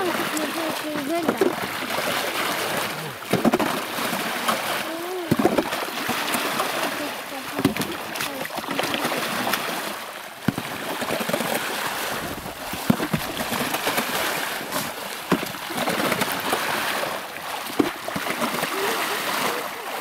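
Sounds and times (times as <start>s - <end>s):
water sloshing: 0.0s - 20.0s.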